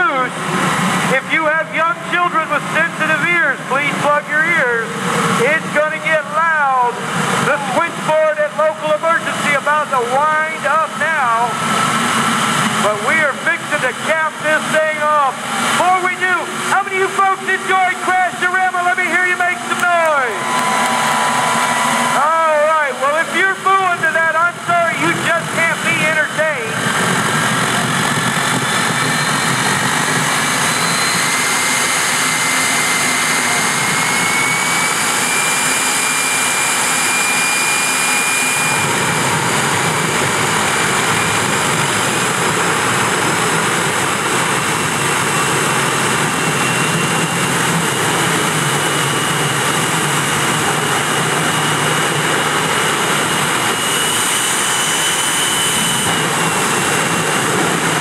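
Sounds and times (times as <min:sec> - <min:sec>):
jet engine roaring: 0:00.0 - 0:58.0
rising engine whine: 0:00.0 - 0:58.0.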